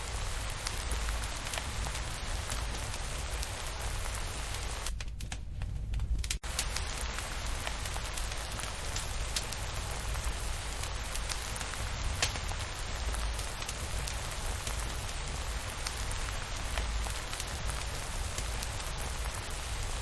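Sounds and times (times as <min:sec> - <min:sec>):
steady rain falling: 0:00.0 - 0:05.0, 0:06.4 - 0:20.0
wood fire crackling: 0:00.0 - 0:20.0.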